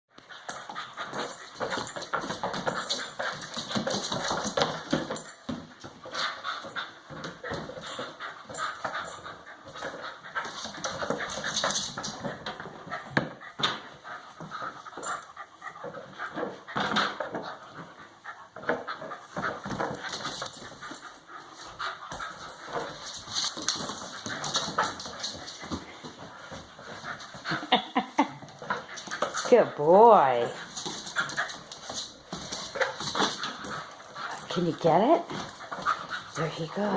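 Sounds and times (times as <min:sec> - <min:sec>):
dog panting and whimpering: 0:00.2 - 0:36.9.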